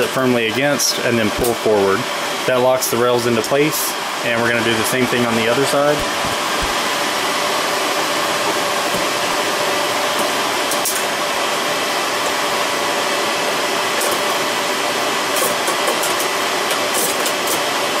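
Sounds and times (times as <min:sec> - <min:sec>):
cooling fans whooshing: 0:00.0 - 0:18.0.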